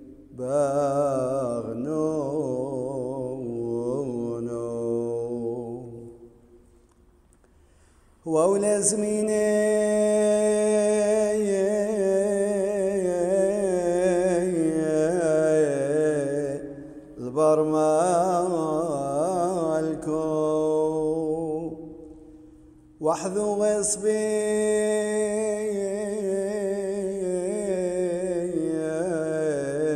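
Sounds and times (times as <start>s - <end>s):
man chanting liturgical melody: 0.0s - 6.3s, 8.2s - 29.9s.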